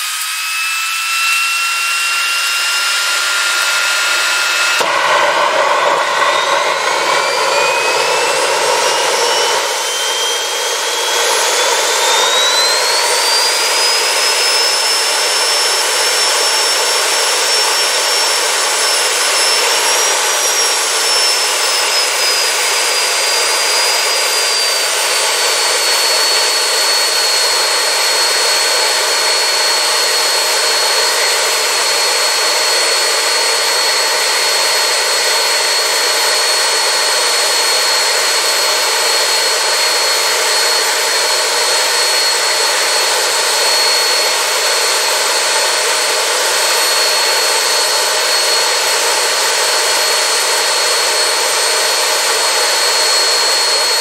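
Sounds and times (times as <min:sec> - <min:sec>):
jet engine running with whine: 0:00.0 - 0:54.0.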